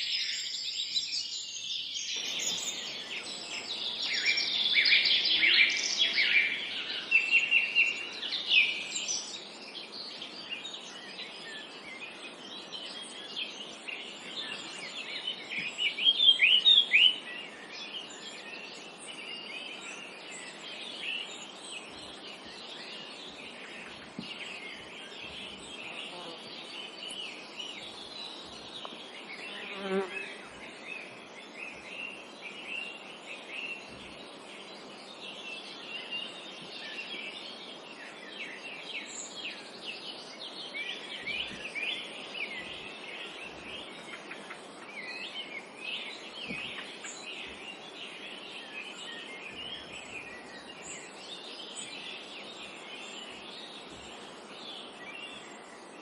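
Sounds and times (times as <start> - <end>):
forest ambience hiss: 0.0 - 56.0
songbirds chirping and singing: 0.0 - 56.0.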